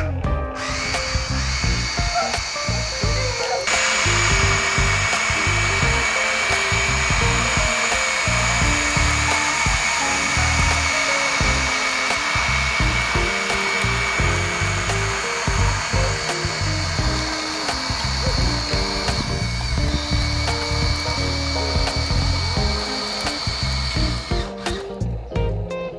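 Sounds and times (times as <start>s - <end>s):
background music: 0.0s - 25.9s
toy excavator motor whine: 0.5s - 25.2s.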